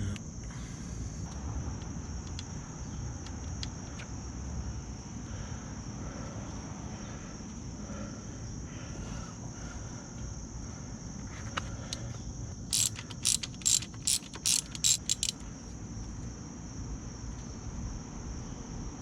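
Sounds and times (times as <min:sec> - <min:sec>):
insects chirring: 0:00.0 - 0:17.8.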